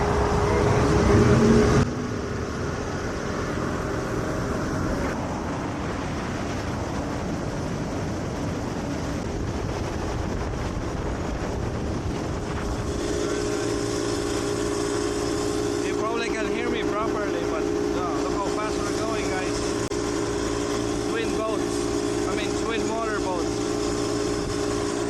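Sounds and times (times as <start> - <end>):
boat engine humming: 0.0 - 25.0
wind and water rushing: 0.0 - 25.0.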